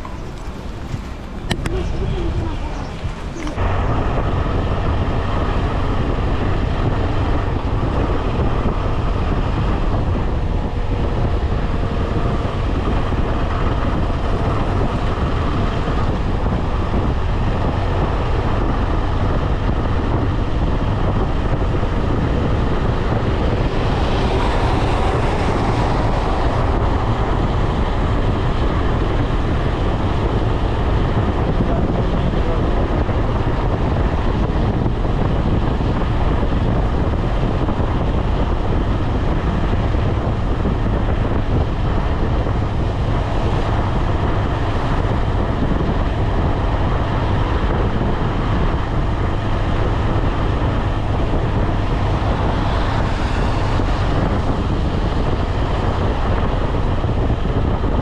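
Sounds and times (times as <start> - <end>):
motorcycle engine cruising: 0.0 - 58.0
wind noise on microphone: 0.0 - 58.0.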